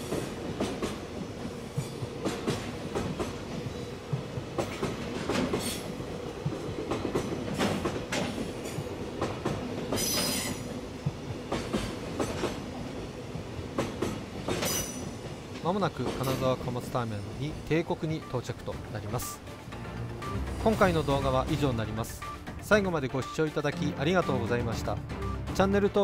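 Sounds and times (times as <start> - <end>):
freight train wheels clacking: 0.0 - 22.5.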